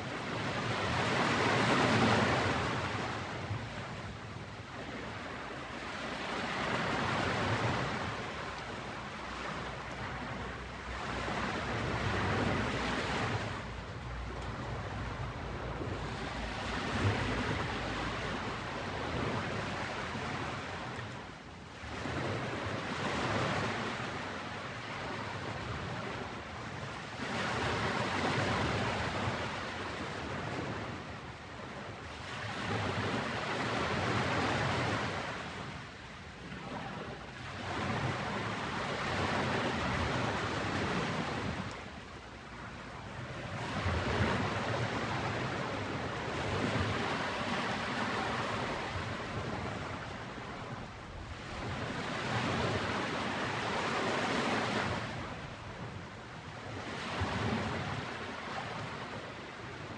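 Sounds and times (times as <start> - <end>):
ocean waves washing in: 0.0 - 59.9.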